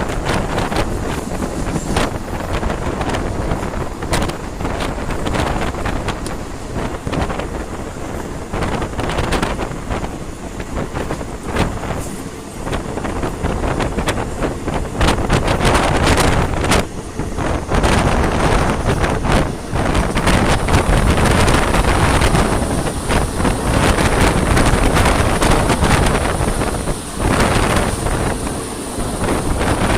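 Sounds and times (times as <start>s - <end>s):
train rumbling: 0.0s - 29.9s
wind buffeting microphone: 0.0s - 29.9s.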